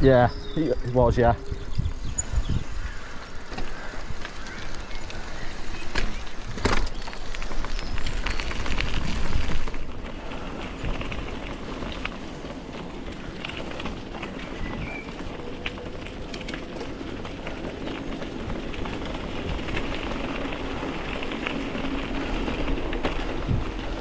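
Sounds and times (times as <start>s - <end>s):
tyres rolling over rough path: 0.0s - 24.0s
wind buffeting microphone: 0.0s - 24.0s.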